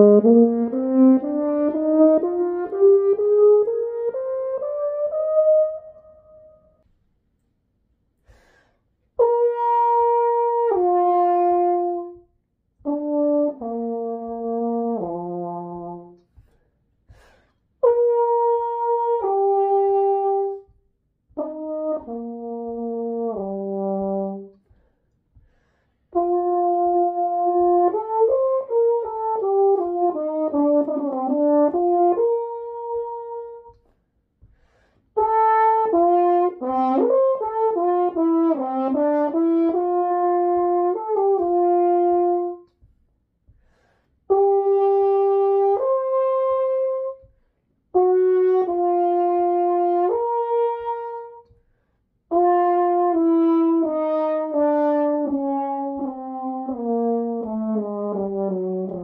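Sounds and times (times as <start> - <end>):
french horn: 0.0 - 7.0, 8.2 - 59.0.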